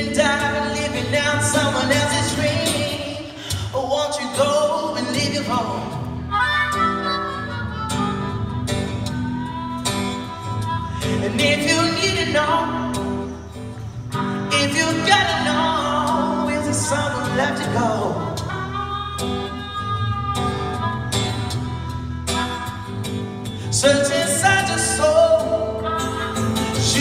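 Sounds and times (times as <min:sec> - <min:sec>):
man singing: 0:00.0 - 0:13.4, 0:14.1 - 0:21.6, 0:23.5 - 0:27.0
acoustic guitar: 0:00.0 - 0:27.0
harmonica playing: 0:04.6 - 0:27.0.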